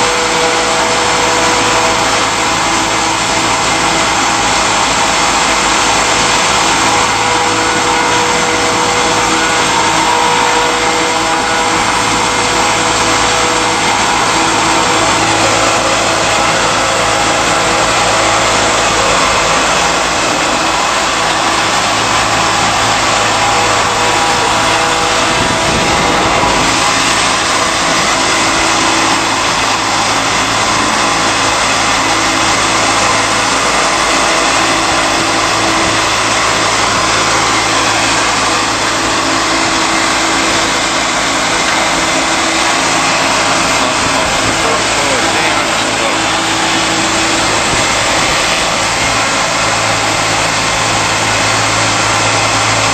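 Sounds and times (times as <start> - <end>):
low motor hum: 0.0 - 52.9
stalk crusher grinding stalks: 0.0 - 52.9.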